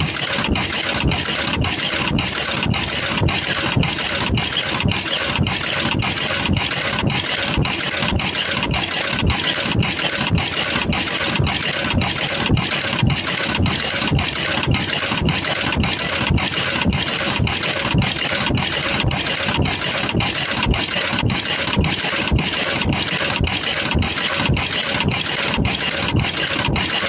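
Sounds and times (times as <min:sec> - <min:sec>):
rhythmic machine noise: 0:00.0 - 0:27.0.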